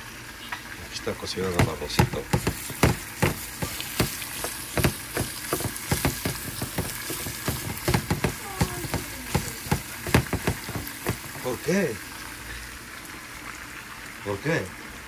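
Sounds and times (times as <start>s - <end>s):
rice sizzling in oil: 0.0s - 15.0s.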